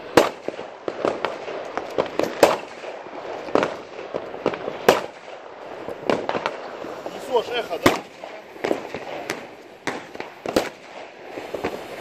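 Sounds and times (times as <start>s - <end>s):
firecrackers bangs and crackles: 0.0s - 12.0s.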